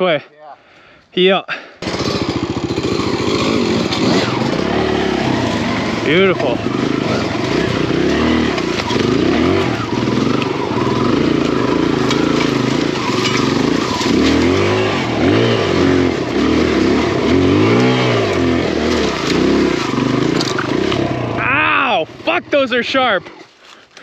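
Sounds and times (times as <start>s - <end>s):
dirt bike engine revving: 1.8s - 23.4s.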